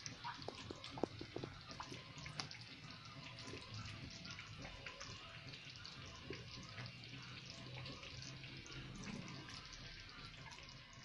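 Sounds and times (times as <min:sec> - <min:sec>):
thick sauce bubbling and popping: 0:00.0 - 0:11.0.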